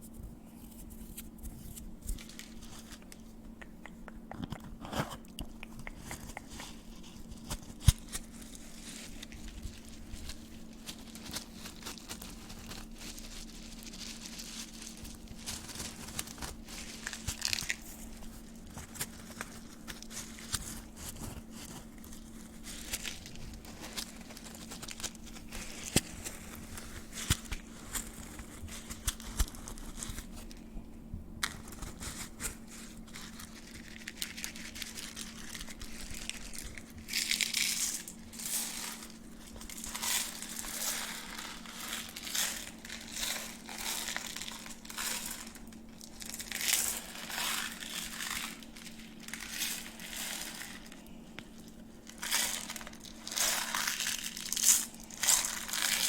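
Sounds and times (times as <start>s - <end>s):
gloves crinkling and rustling: 0.0s - 56.0s.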